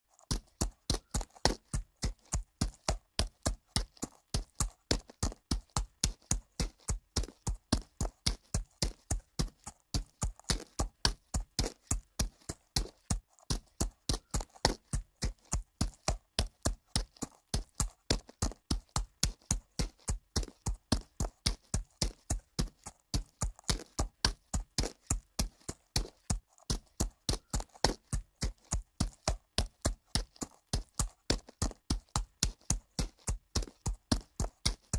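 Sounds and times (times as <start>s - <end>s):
horse hooves walking on dirt: 0.1s - 34.9s.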